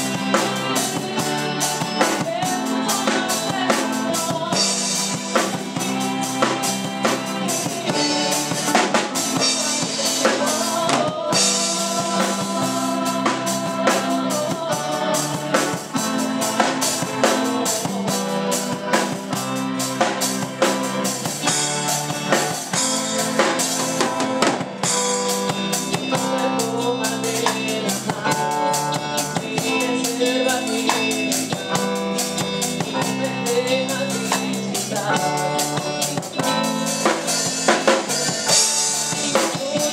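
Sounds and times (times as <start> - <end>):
band playing a song: 0.0 - 39.9
drum kit beat: 0.0 - 39.9.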